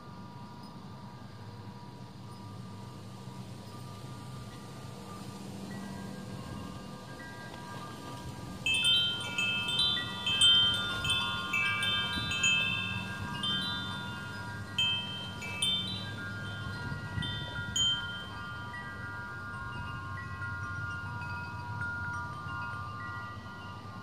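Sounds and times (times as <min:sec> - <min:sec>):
wind chimes ringing: 0:00.0 - 0:24.0.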